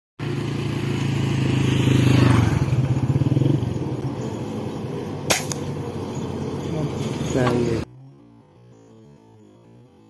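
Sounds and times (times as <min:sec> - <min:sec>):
vehicle engine running: 0:00.2 - 0:10.0.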